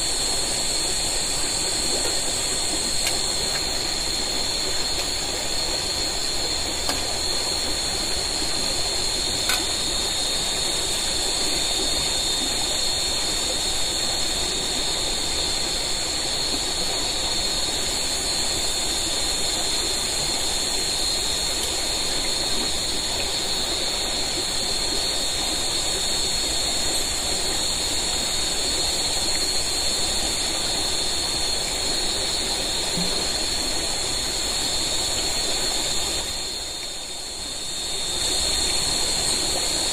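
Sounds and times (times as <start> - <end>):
flowing water rushing: 0.0 - 39.9
high-pitched insect chorus: 0.0 - 39.9.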